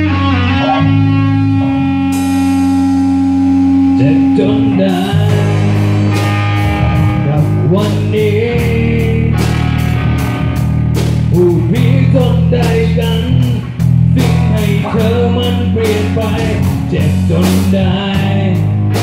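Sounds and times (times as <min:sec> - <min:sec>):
drums: 0:00.0 - 0:19.0
electric guitars: 0:00.0 - 0:19.0
melodic guitar line: 0:00.0 - 0:19.0.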